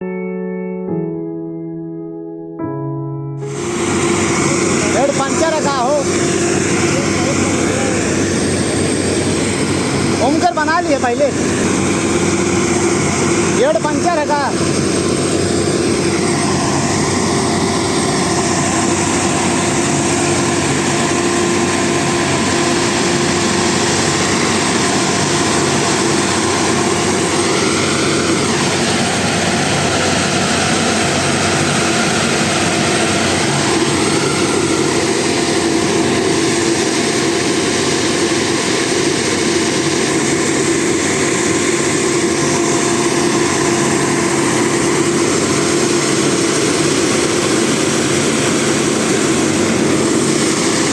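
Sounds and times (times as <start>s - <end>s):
diesel machinery engine running: 3.4s - 50.9s.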